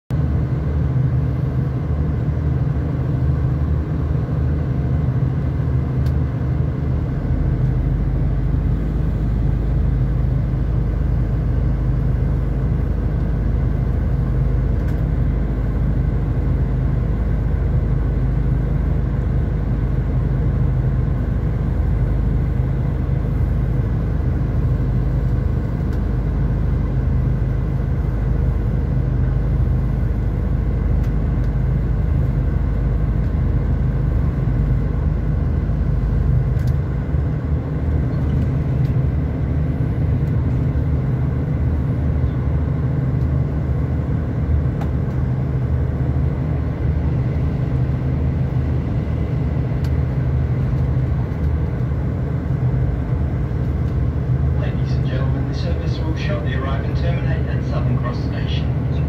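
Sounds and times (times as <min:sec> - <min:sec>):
deeper hum: 0:00.1 - 0:59.0
diesel train rumble: 0:00.1 - 0:59.0.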